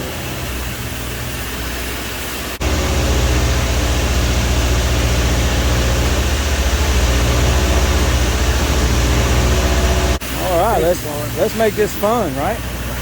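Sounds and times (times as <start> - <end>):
boom lift engine running: 0.0 - 13.0.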